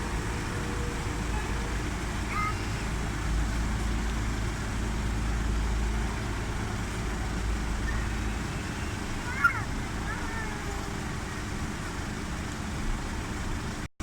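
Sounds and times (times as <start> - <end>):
ferry engine rumbling: 0.0 - 13.9.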